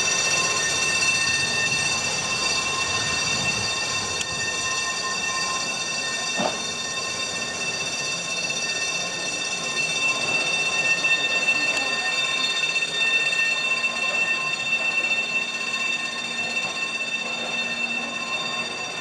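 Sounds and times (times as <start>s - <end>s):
tram rolling on track: 0.0s - 19.0s
wheels squealing: 0.0s - 19.0s.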